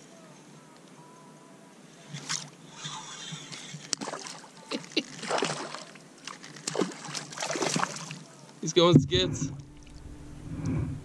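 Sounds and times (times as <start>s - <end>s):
water sloshing and splashing: 2.1s - 11.0s.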